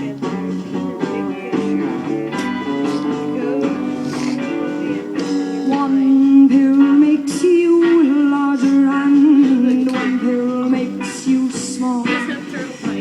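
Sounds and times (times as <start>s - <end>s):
guitar accompaniment: 0.0s - 13.0s.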